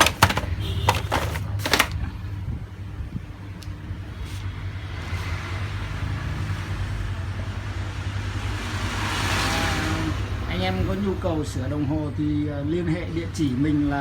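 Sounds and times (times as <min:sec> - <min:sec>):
low traffic engine hum: 0:00.0 - 0:13.7.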